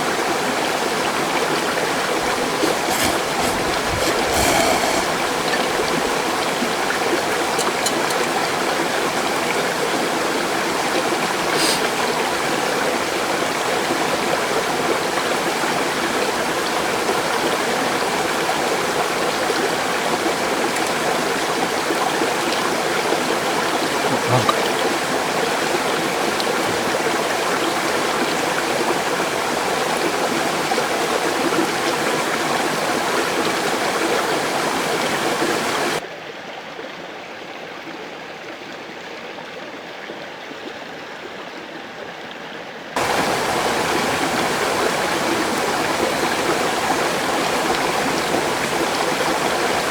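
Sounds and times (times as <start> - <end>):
stream rushing and splashing: 0.0 - 36.0, 43.0 - 49.9.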